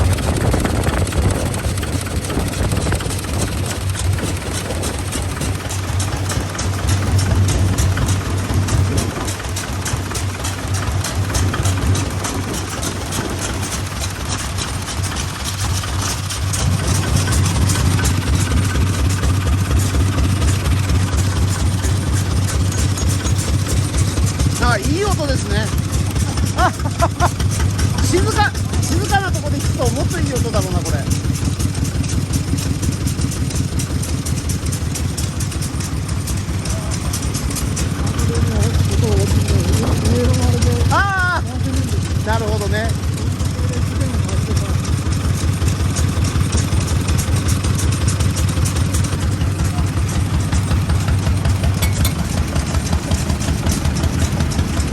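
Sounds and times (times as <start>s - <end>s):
stationary engine running: 0.0s - 54.9s.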